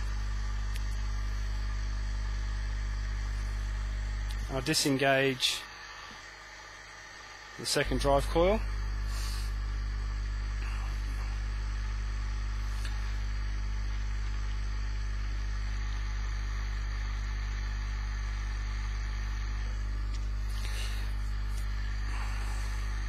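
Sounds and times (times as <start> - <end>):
motor generator humming: 0.0 - 23.0.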